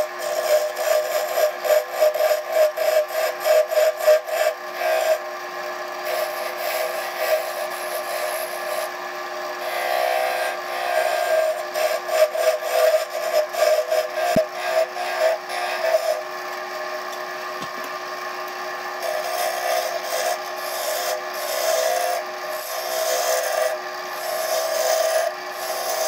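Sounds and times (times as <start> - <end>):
turning tool scraping wood: 0.0 - 18.2, 18.8 - 26.0
wood lathe humming: 0.0 - 26.0.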